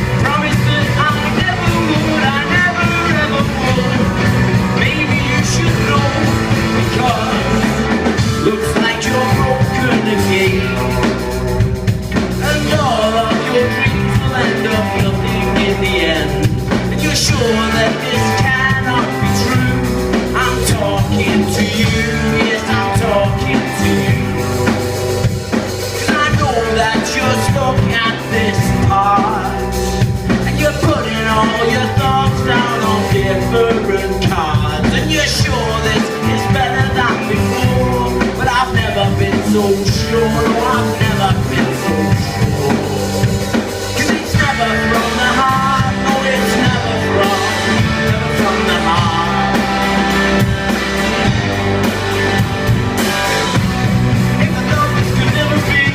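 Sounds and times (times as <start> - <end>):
drum kit beat: 0.0 - 55.9
rock band playing: 0.0 - 55.9.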